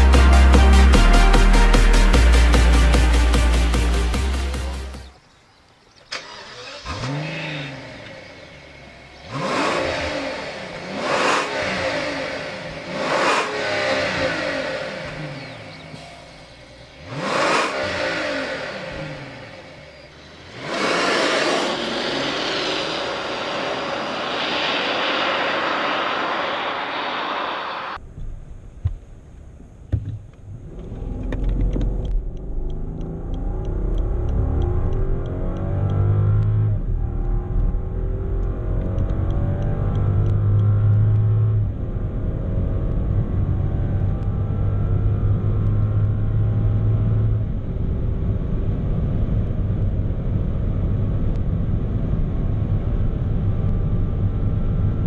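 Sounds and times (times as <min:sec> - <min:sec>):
road and wind noise: 0:05.1 - 0:55.0
car engine accelerating: 0:06.1 - 0:28.0, 0:30.5 - 0:55.0.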